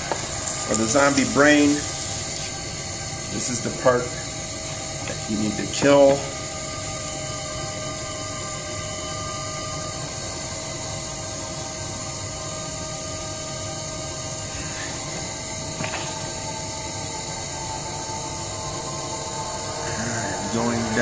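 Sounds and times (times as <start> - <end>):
potter's wheel whirring: 0.0 - 21.0.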